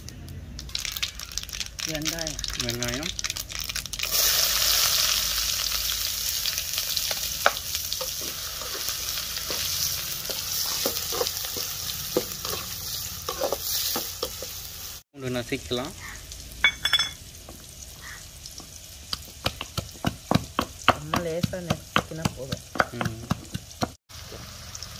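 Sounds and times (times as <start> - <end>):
onions sizzling in oil: 0.7 - 24.9.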